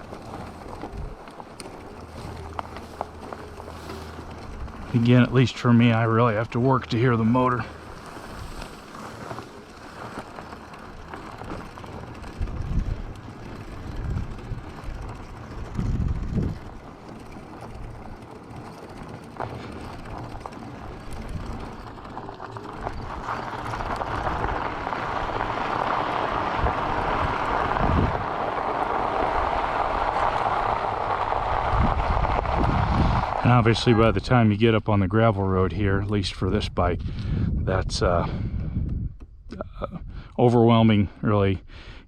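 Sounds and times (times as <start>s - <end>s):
tyres rolling on gravel: 0.0s - 37.0s
wind buffeting microphone: 0.0s - 40.4s
bike chain and drivetrain noise: 0.0s - 42.0s.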